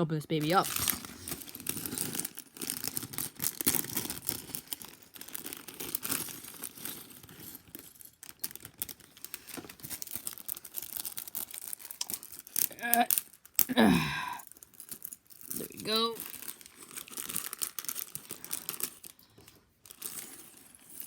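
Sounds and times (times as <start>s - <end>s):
packaging crinkling and rustling: 0.3s - 21.0s.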